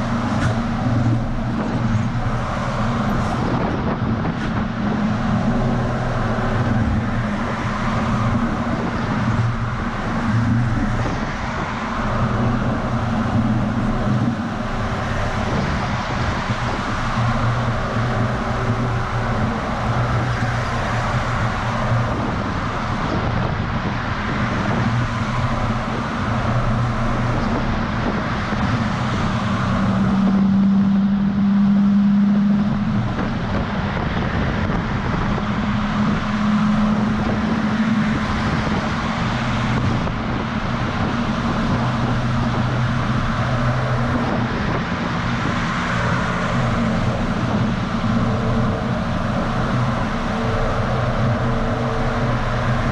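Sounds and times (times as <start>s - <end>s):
truck engine drone: 0.0s - 52.9s
wind noise: 0.0s - 52.9s.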